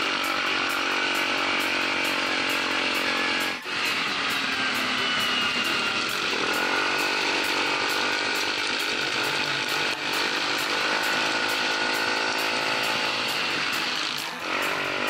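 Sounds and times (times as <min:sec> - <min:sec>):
atv engine accelerating: 0:00.0 - 0:15.0.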